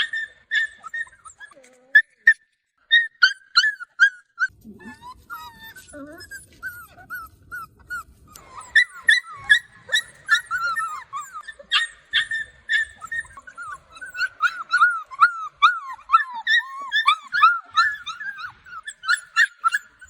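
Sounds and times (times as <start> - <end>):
puppies whining and crying: 0.0 - 20.0.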